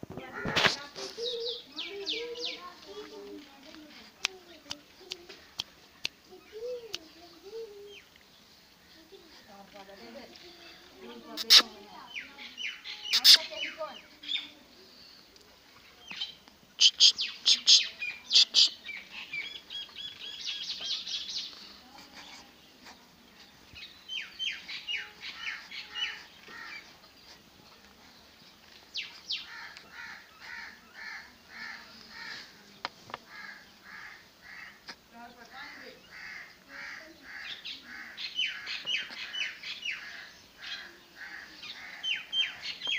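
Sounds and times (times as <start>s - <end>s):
birds chirping: 0.2s - 42.9s.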